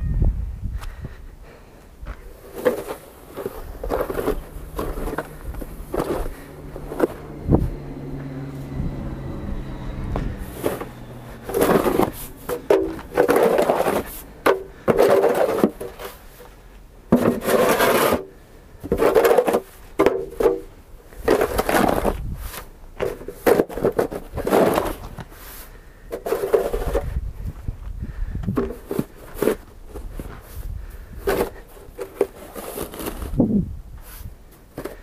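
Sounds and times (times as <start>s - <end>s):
snow shovel scraping snow: 2.4s - 16.5s, 17.1s - 20.0s, 21.1s - 27.2s, 28.7s - 35.0s.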